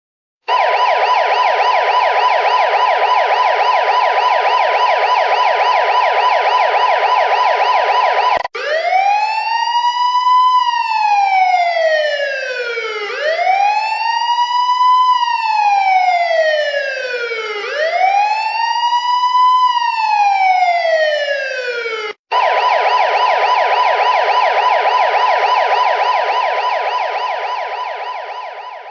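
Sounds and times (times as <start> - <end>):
police siren yelp and wail: 0.5 - 28.9.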